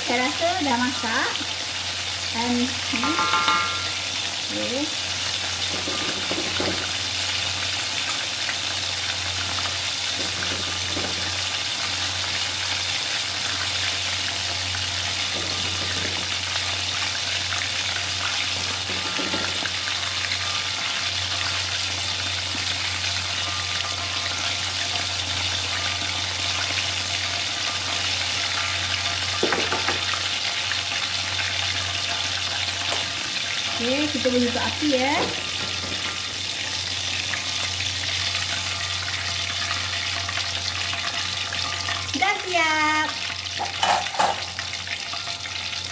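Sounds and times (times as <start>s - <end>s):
chicken deep-frying in oil: 0.0s - 45.9s.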